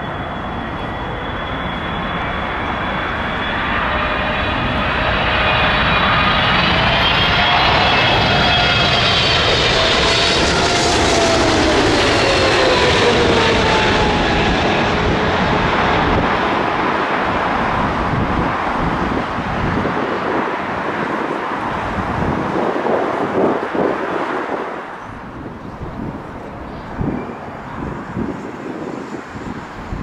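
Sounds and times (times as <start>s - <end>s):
jet aircraft roar: 0.0s - 30.0s
jet engine whine: 0.0s - 30.0s.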